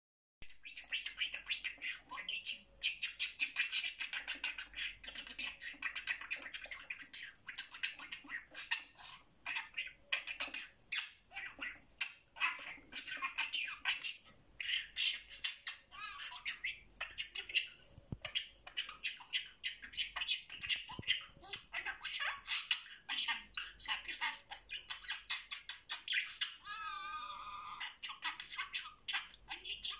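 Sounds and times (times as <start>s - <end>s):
budgerigar warbling and chattering: 0.5s - 29.9s.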